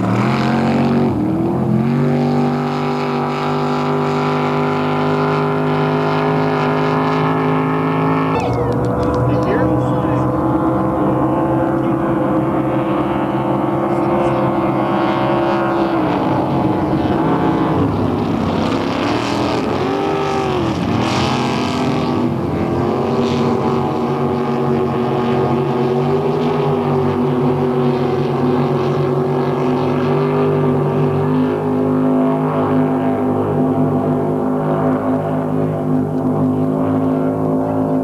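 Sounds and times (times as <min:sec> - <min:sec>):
motorboat engines running: 0:00.0 - 0:38.0.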